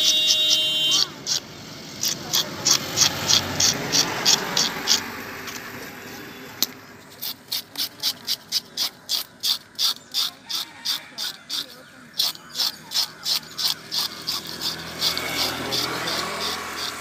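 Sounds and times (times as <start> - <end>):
metal scaler scraping fish scales: 0.0 - 17.0.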